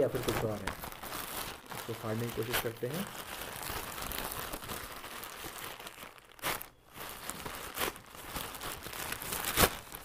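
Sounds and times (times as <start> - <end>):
plastic mailer bag crinkling: 0.0 - 10.0.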